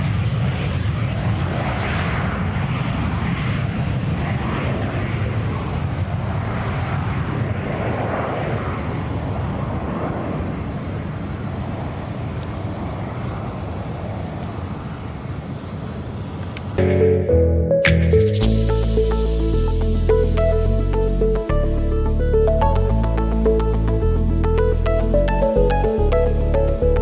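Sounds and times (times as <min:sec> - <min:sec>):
airplane engine noise: 0:00.0 - 0:17.5, 0:18.1 - 0:27.0.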